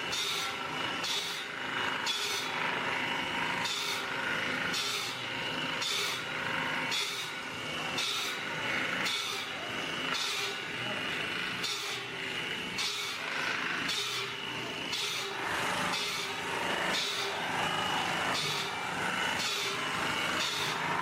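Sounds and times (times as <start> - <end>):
running machinery: 0.0 - 21.0
saw cutting through wood: 0.0 - 21.0.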